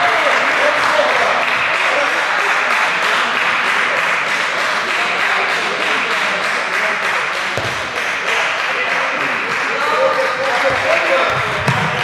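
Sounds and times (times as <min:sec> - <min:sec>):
applause: 0:00.0 - 0:12.0
crowd voices: 0:00.0 - 0:12.0.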